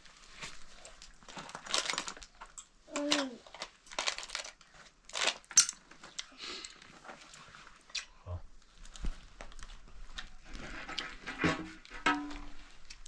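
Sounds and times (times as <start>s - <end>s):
crinkling and rustling: 0.0s - 13.0s.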